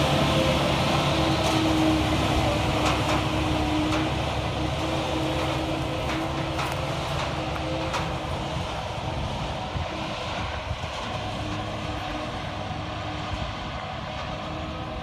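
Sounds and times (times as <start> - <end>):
truck diesel engine pulling hard: 0.0 - 15.0.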